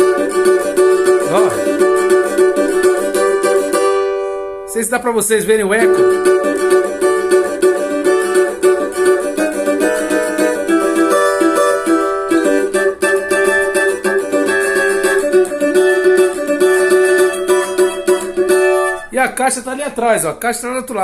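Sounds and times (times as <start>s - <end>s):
amplified cavaquinho playing: 0.0s - 20.2s.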